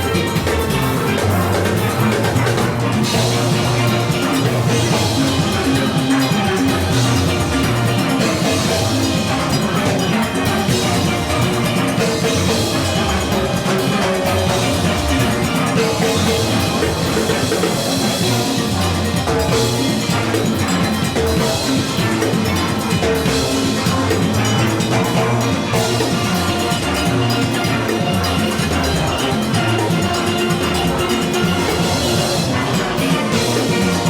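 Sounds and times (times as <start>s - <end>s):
drum kit and percussion: 0.0s - 34.0s
steel pans playing fast melody: 0.0s - 34.0s.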